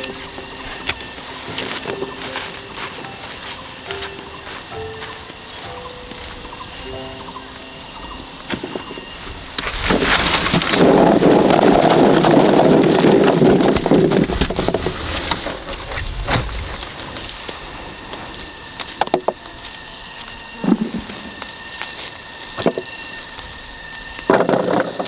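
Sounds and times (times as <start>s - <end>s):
leaves and branches rustling: 0.0s - 25.0s.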